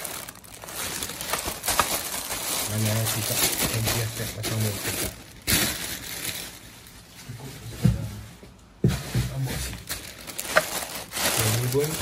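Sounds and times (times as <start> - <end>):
plastic bags rustling: 0.0 - 8.3, 9.2 - 12.0.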